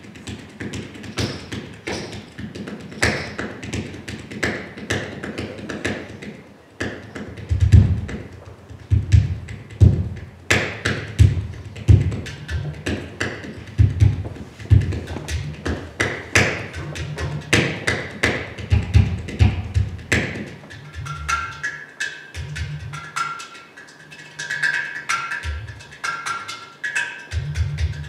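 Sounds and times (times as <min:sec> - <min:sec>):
hand drums playing: 0:00.0 - 0:28.0.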